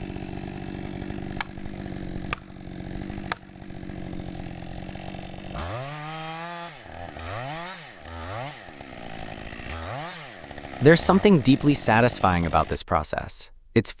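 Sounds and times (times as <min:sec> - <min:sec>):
chainsaw idling and revving: 0:00.0 - 0:12.8.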